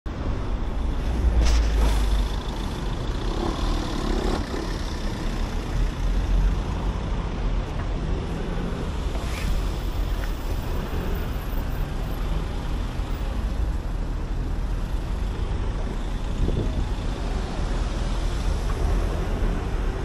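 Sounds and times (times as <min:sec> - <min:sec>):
road traffic rumble: 0:00.1 - 0:20.0.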